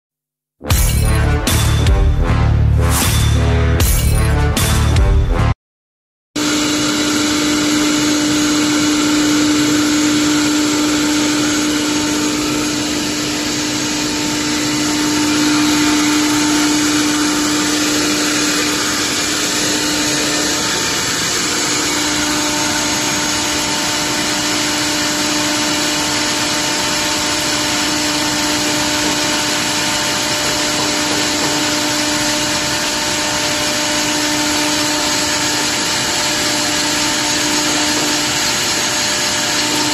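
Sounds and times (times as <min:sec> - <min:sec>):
wood cutting noise: 0:06.4 - 0:39.9
wood lathe machine whine: 0:06.4 - 0:39.9.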